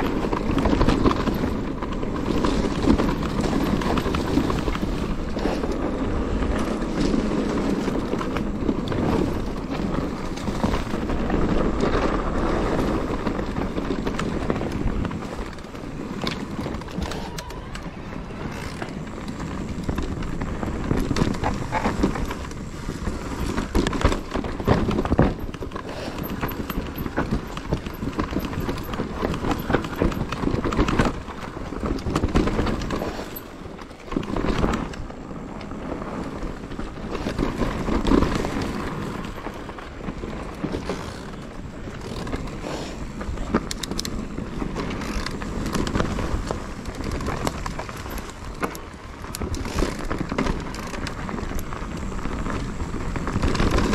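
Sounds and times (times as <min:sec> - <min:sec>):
bike clattering and rattling: 0:00.0 - 0:53.9
bike tyres on dirt and stones: 0:00.0 - 0:53.9.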